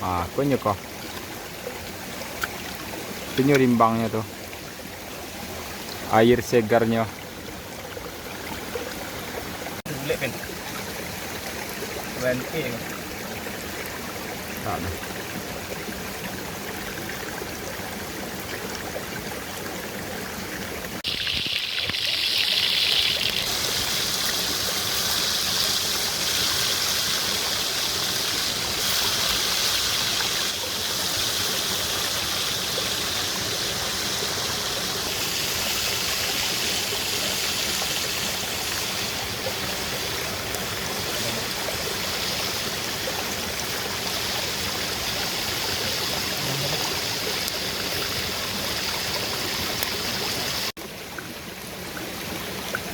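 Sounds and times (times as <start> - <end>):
stream flowing: 0.0 - 52.9.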